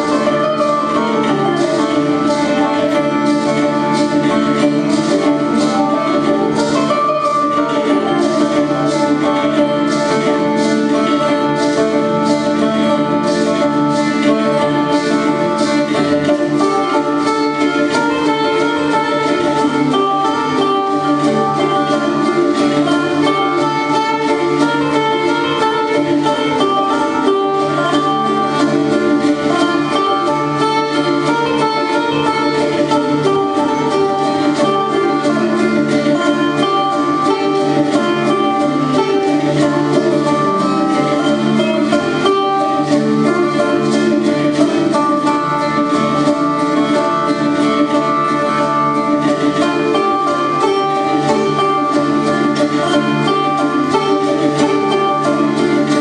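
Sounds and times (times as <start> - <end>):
plucked string music: 0.0 - 56.0.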